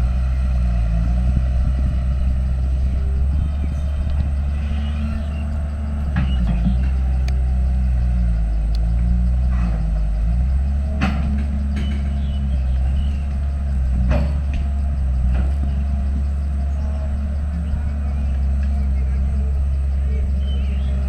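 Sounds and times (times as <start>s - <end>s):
heavy machinery diesel engine: 0.0s - 21.0s.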